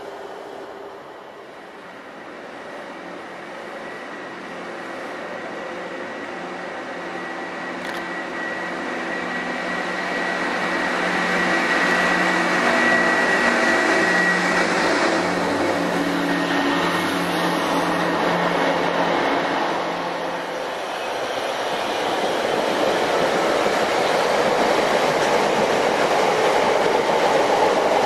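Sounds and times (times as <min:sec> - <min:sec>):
rail machine engine hum: 0:00.0 - 0:28.0.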